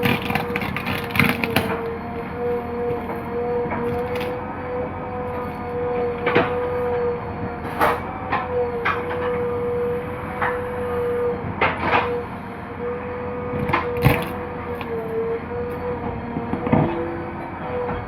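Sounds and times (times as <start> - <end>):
backhoe engine running: 0.0 - 18.0.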